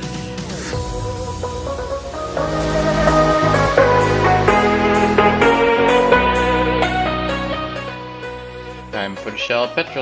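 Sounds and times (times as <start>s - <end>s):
guitar-led background music: 0.0s - 10.0s.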